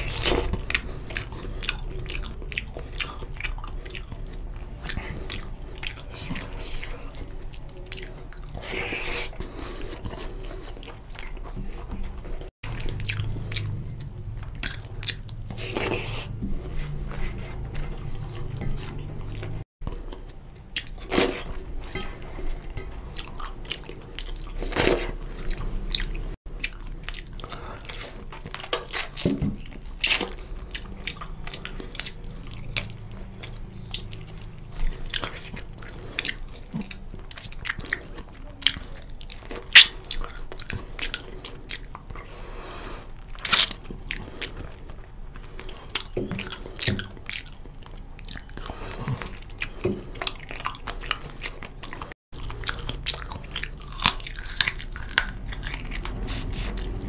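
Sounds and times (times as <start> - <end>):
man chewing food: 0.0 - 57.0.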